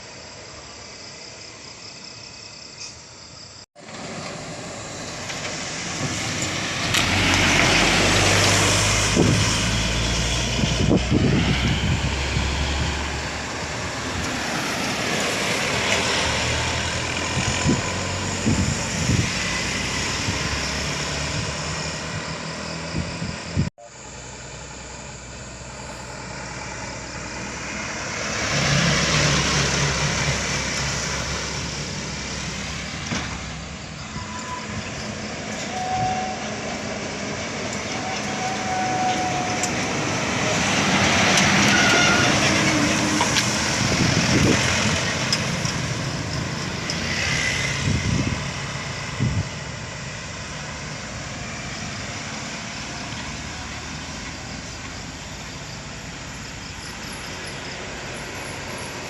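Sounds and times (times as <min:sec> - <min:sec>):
passing traffic: 0:00.0 - 0:59.0
truck engines running under load: 0:03.8 - 0:59.0.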